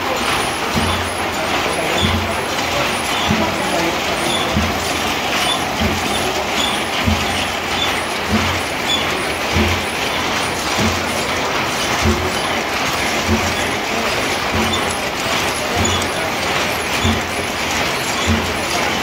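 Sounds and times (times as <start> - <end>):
loom gears clattering: 0.0 - 19.0
low thud of loom: 0.0 - 19.0.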